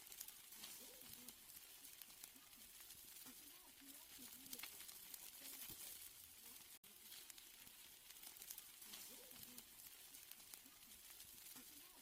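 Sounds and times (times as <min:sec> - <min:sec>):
steaks sizzling over fire: 0:00.0 - 0:12.0.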